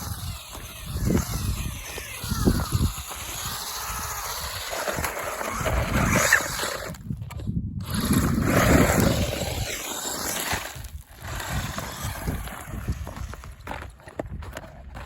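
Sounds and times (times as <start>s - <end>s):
radio-controlled car rumble: 0.0s - 13.9s.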